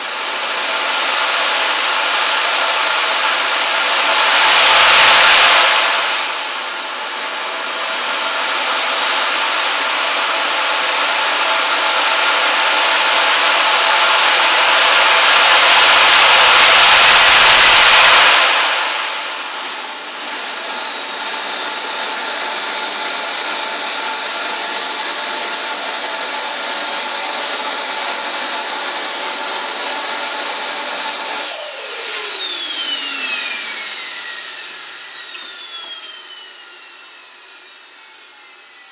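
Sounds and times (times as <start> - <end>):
model jet turbine whine and roar: 0.0 - 38.9.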